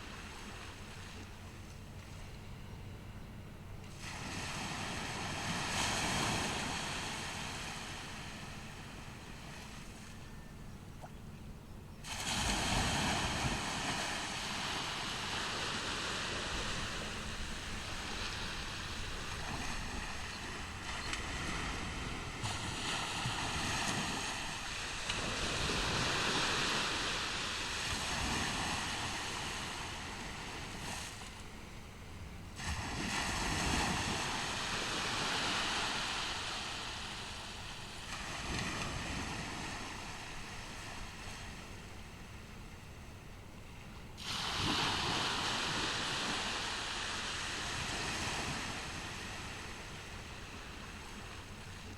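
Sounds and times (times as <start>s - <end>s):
ocean surf breaking on beach: 3.8s - 10.2s, 12.0s - 31.7s, 32.5s - 42.6s, 44.2s - 51.9s.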